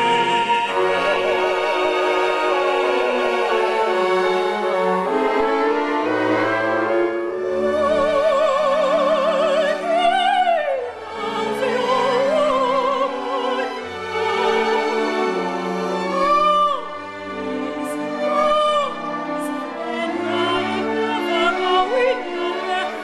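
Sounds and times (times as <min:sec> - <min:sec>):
operatic soprano singing: 0:00.0 - 0:05.2, 0:07.2 - 0:23.0
orchestral accompaniment: 0:00.0 - 0:23.0.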